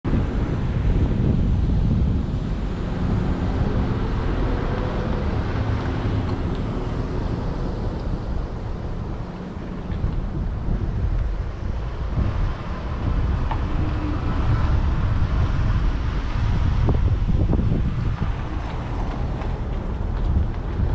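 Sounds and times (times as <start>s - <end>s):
road and wind noise: 0.0s - 20.9s.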